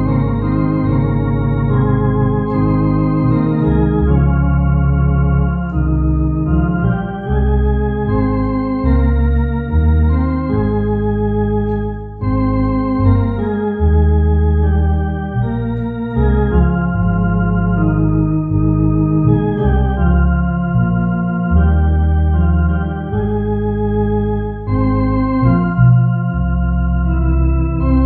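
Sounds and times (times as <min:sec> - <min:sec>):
electronic organ playing a hymn: 0:00.0 - 0:28.0.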